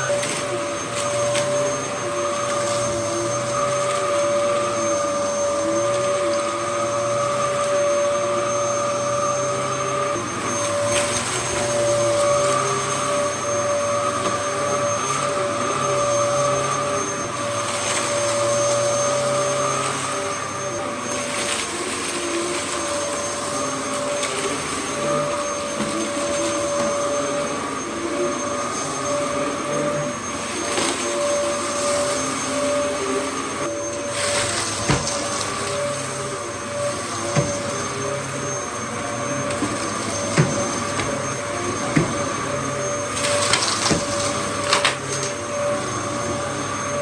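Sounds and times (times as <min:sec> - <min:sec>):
vacuum cleaner motor whine: 0:00.0 - 0:47.0.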